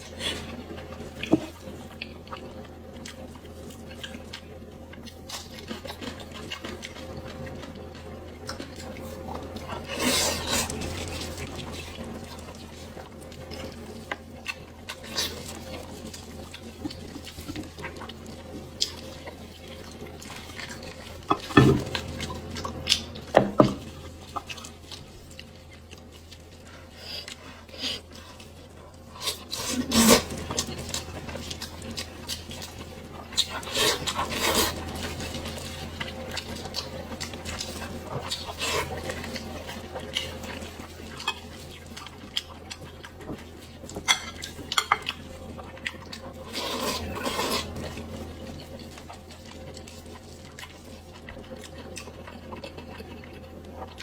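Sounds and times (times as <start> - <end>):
close-miked chewing: 0.0 - 54.0
low steady hum: 0.0 - 54.0.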